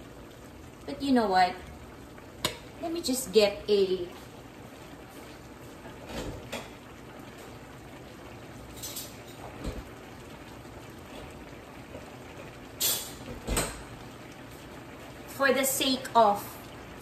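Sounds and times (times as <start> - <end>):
sauce bubbling in a pan: 0.0 - 17.0.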